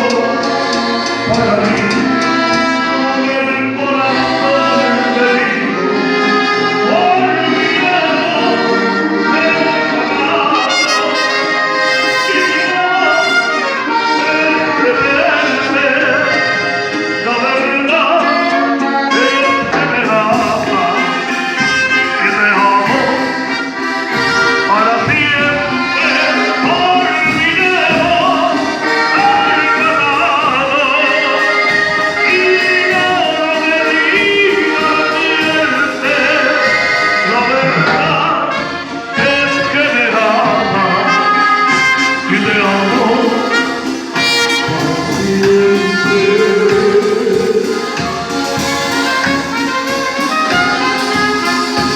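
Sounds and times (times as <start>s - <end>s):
band playing music: 0.0s - 51.9s.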